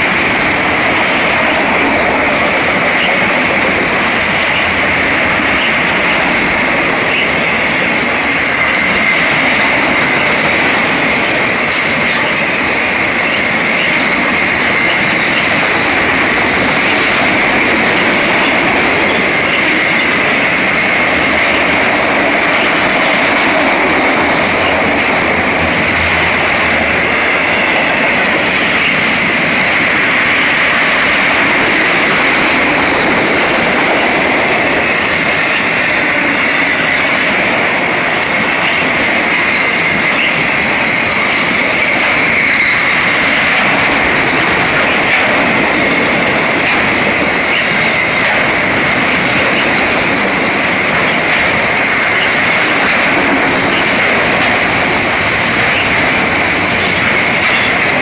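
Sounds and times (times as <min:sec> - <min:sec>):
steel wheels on rails: 0:00.0 - 0:58.0.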